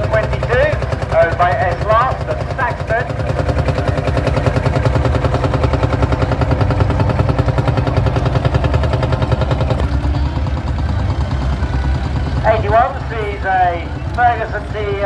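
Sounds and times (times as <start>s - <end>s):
tractor engine driving past: 0.0s - 15.0s.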